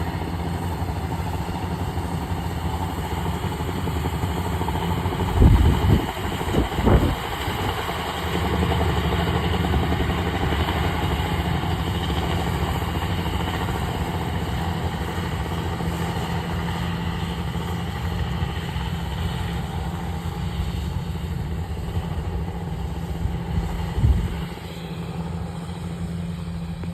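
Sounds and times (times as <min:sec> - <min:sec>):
combine harvester droning: 0:00.0 - 0:26.9.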